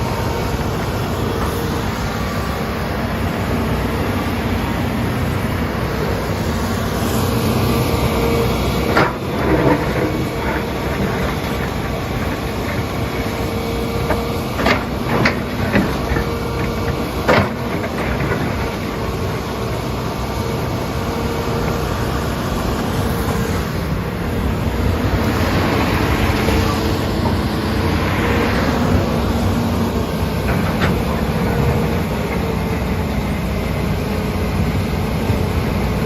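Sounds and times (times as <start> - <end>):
excavator running with whine: 0.0 - 36.0.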